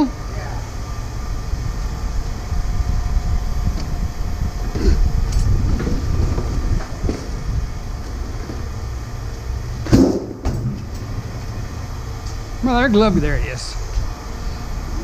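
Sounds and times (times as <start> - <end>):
engines and machinery rumbling: 0.0 - 15.0.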